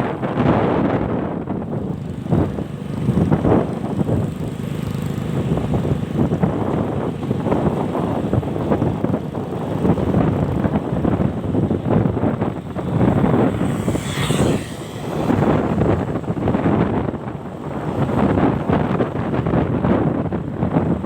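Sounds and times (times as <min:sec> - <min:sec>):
vehicle rumble: 0:00.0 - 0:21.0
wind buffeting microphone: 0:00.0 - 0:21.0.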